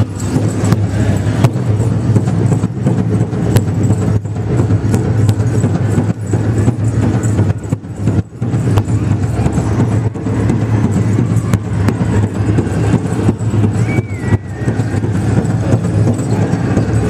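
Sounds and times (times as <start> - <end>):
large drum beating: 0.0 - 17.0.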